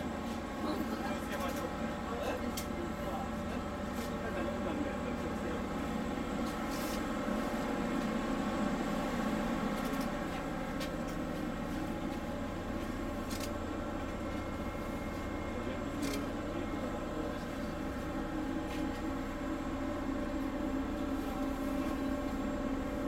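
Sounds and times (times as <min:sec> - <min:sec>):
machinery and ventilation hum: 0:00.0 - 0:23.0.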